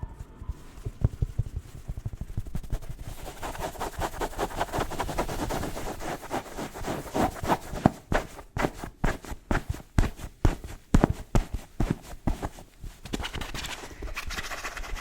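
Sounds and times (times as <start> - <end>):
rapid scratching on hard objects: 0.5 - 15.0.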